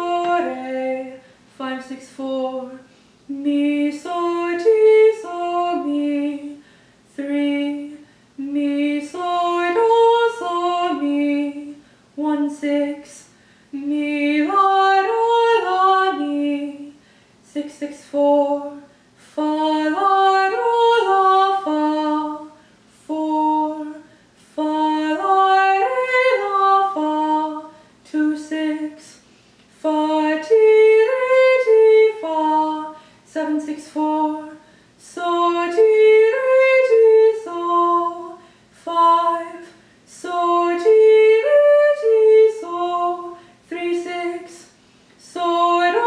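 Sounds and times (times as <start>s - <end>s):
woman singing arpeggios: 0.0s - 29.2s, 29.8s - 46.0s.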